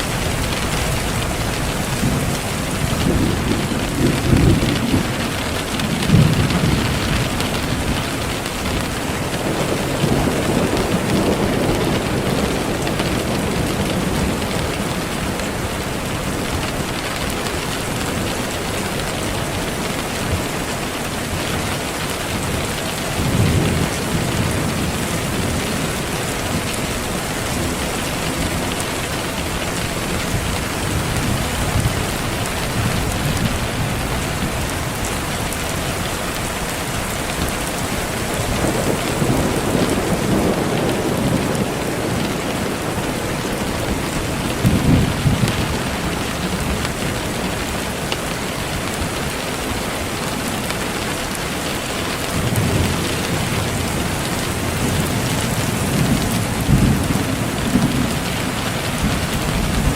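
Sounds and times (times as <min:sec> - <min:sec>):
low rolls of thunder: 0:00.0 - 0:18.6, 0:23.0 - 0:49.9, 0:52.2 - 0:59.9
heavy rain: 0:00.0 - 0:59.9.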